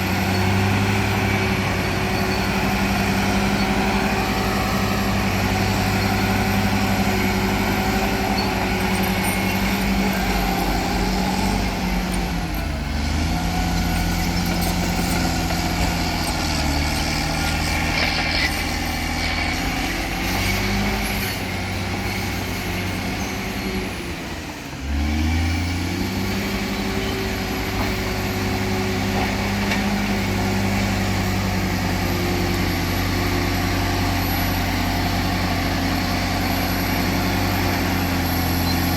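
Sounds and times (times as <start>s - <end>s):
heavy diesel engines working: 0.0s - 38.9s.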